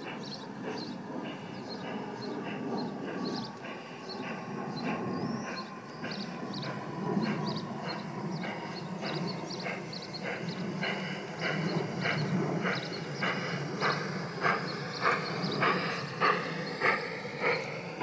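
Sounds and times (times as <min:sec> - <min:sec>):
model train running hum: 0:00.0 - 0:18.0.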